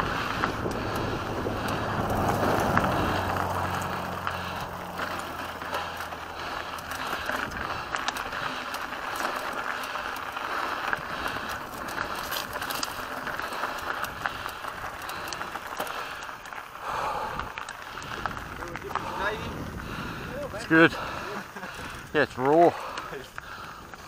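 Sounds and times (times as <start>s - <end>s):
bike rattling over bumps: 0.0s - 24.0s
bike tyres on dirt and gravel: 0.0s - 24.0s.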